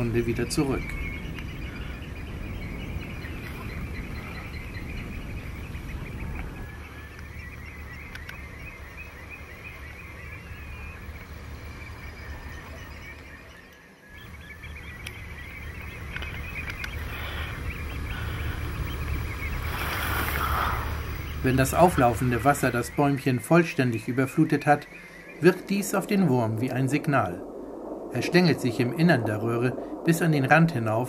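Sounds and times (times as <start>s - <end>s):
distant birds calling: 0.0s - 31.0s
wind rumbling on microphone: 0.0s - 31.0s.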